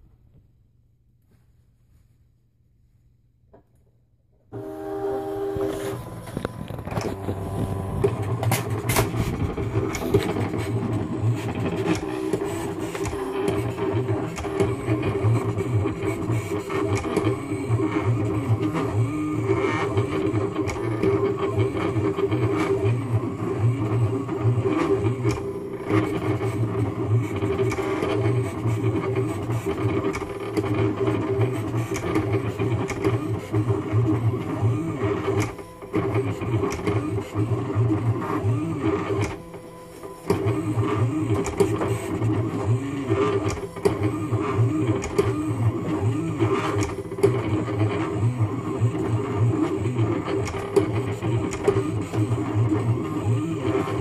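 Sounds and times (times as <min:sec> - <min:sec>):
cutting machine motors whirring: 0:04.5 - 0:54.0.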